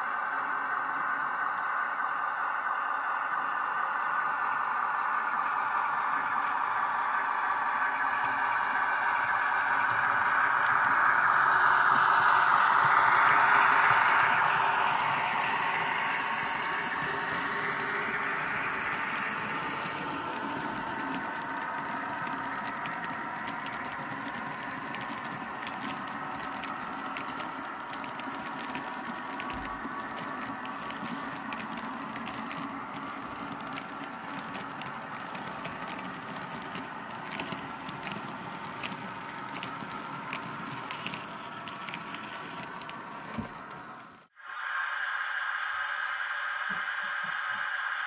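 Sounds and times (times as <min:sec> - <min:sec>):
wheels clicking on rails: 0:00.0 - 0:44.4.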